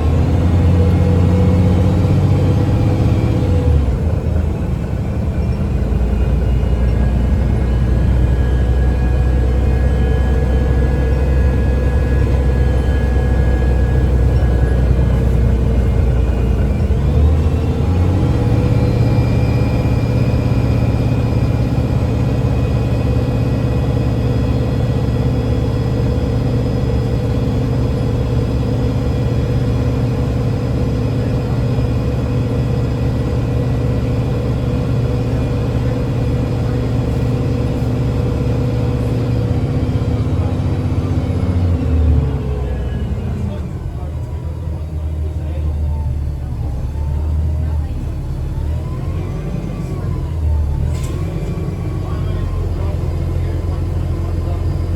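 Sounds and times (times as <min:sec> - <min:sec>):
bus engine rumble: 0:00.0 - 0:54.9.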